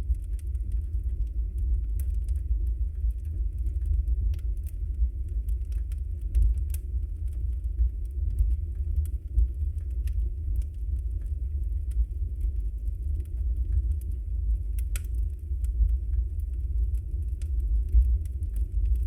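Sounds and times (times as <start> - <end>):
low rumble: 0.0 - 19.0
wood fire crackling: 0.0 - 19.0.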